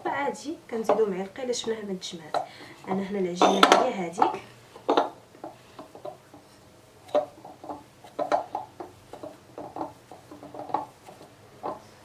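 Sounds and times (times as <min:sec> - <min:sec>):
hands pressing dough in a bowl: 0:00.7 - 0:12.0.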